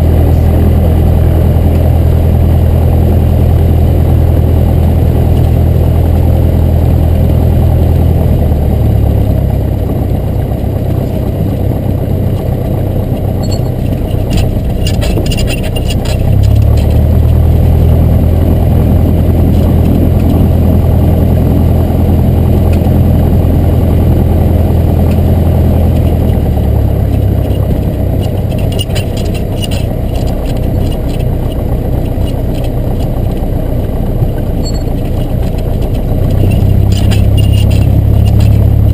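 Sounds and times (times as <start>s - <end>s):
propeller plane engine running: 0.0s - 38.9s.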